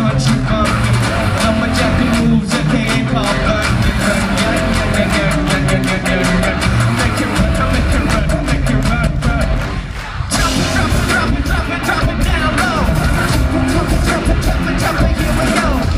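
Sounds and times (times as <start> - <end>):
rock band playing: 0.0 - 15.9.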